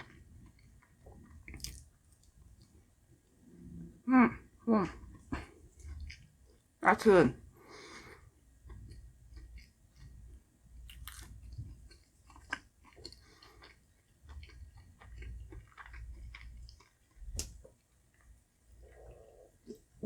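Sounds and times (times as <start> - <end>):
person chewing food: 0.0 - 2.9, 4.9 - 6.7, 7.6 - 20.0.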